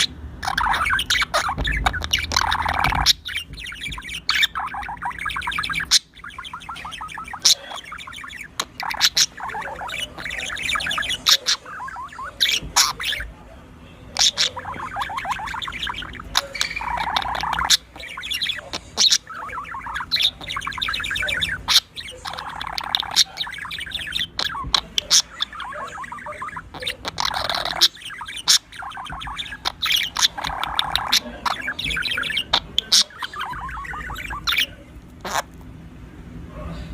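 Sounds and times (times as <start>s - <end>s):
birds chattering and squawking: 0.0s - 36.9s.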